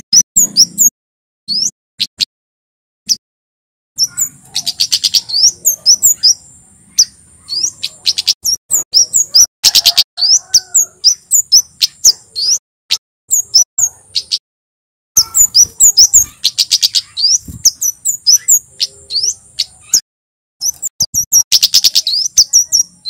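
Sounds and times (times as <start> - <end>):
bird singing high sharp chirps: 0.0 - 0.9, 1.5 - 2.3, 4.0 - 12.6, 13.3 - 14.4, 15.2 - 20.0, 20.6 - 23.0.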